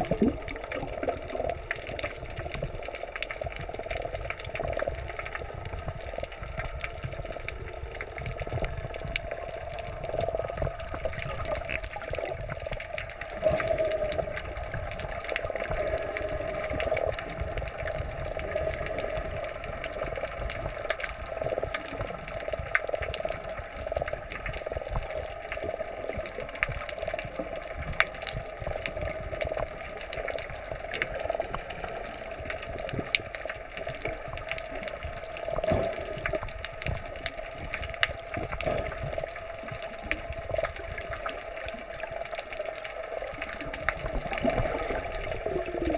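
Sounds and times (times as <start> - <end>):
faint clicks: 0.0 - 45.9
muffled underwater hum: 0.0 - 45.9.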